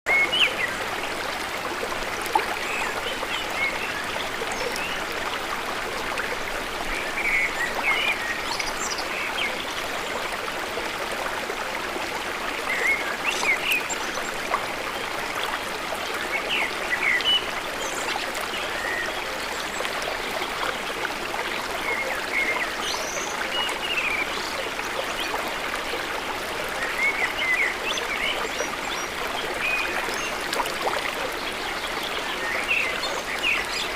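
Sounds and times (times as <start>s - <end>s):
river water flowing: 0.1s - 33.9s.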